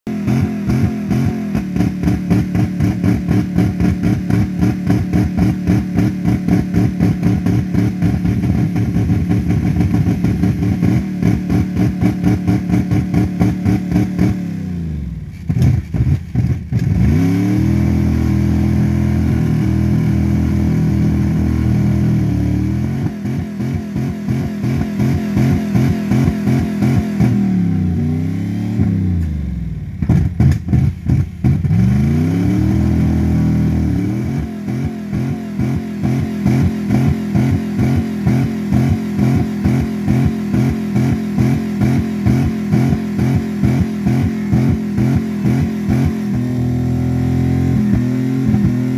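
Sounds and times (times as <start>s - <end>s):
pulsing engine sputtering: 0.1s - 48.9s.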